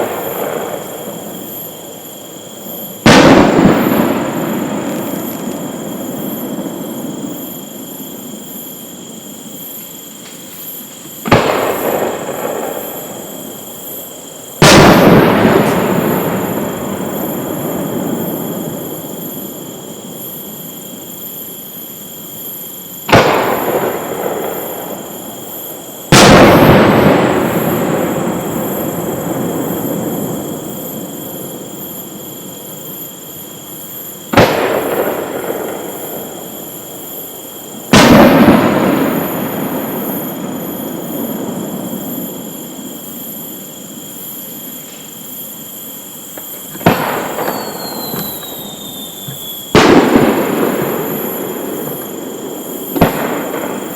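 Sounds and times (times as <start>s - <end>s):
firework shells booming: 0.0s - 9.5s, 10.1s - 20.7s, 22.9s - 53.9s.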